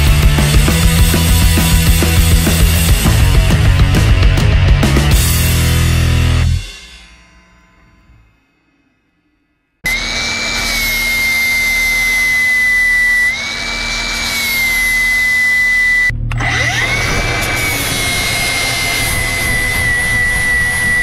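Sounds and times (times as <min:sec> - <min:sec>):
angle grinder whine on steel: 0:00.0 - 0:21.0.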